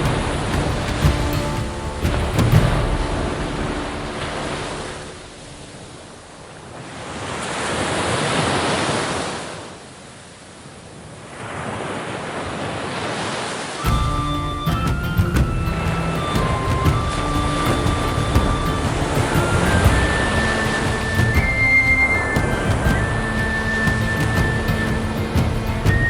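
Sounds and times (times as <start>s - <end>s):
sea waves breaking ashore: 0.0s - 26.0s.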